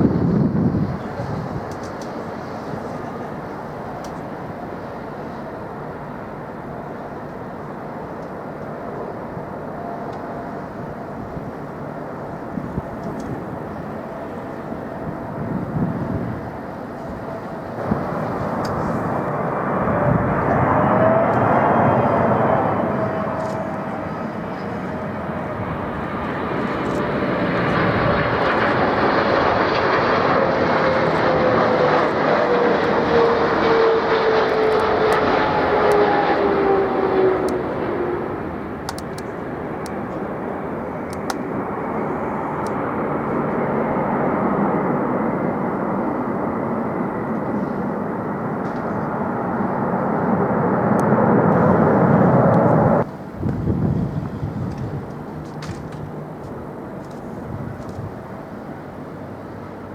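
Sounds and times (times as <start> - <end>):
jet airliner flying past: 0.0 - 59.9.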